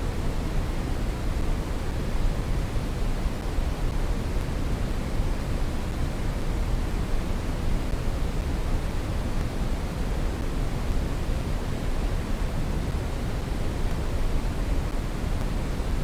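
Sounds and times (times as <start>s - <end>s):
brown noise hiss: 0.0s - 16.0s.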